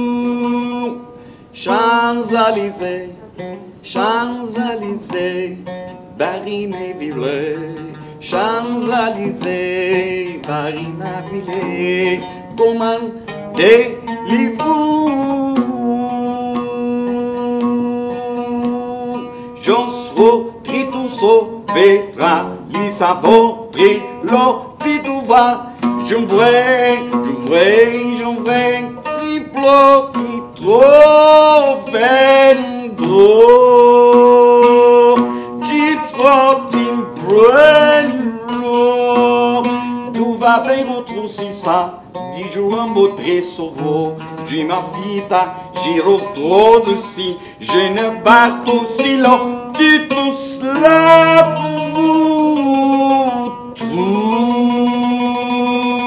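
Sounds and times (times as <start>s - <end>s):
person singing: 0.0s - 56.0s
plucked lute melody: 0.0s - 56.0s.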